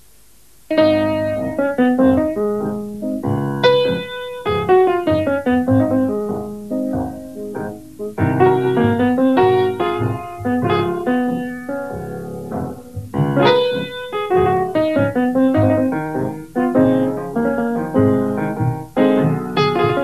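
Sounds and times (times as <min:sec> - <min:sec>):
blues piano playing: 0:00.7 - 0:20.0.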